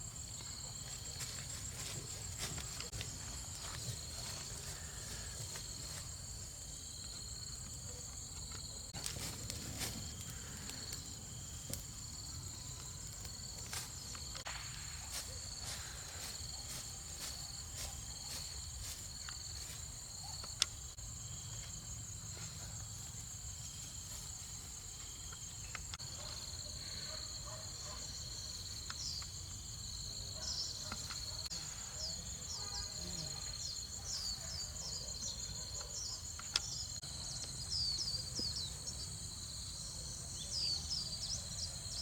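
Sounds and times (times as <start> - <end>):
insects trilling high: 0.0 - 42.0
lower insect trill: 0.0 - 42.0.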